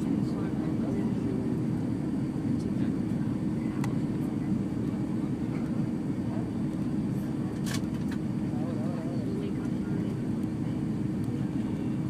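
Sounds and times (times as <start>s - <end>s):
airliner cabin engine roar: 0.0s - 12.0s.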